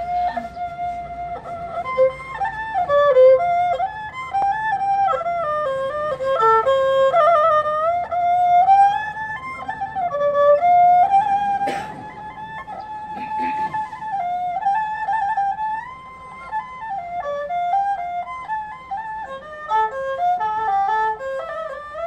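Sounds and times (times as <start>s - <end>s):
bowed fiddle melody: 0.0s - 22.0s.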